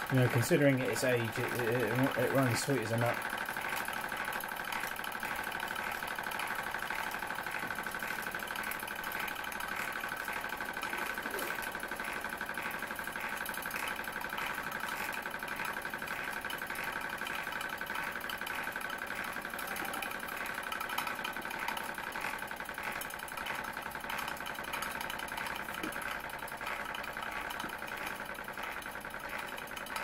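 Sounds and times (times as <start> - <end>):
model steam engine beating: 0.0 - 30.0.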